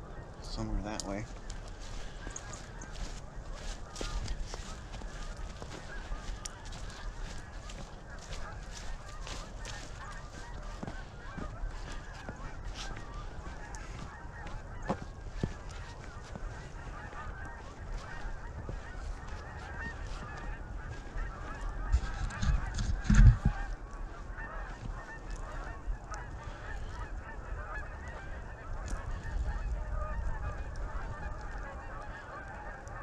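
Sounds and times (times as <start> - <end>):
geese honking: 0.0 - 33.0.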